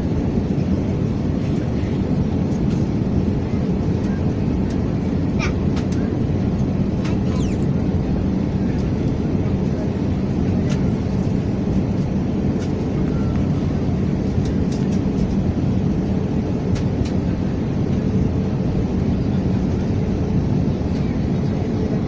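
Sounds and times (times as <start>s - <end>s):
airliner cabin drone: 0.0s - 22.0s
faint hum: 0.0s - 22.0s.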